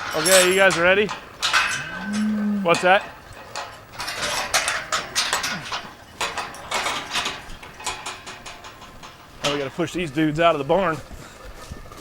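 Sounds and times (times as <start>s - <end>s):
metal gates clanking and rattling: 0.0s - 11.1s.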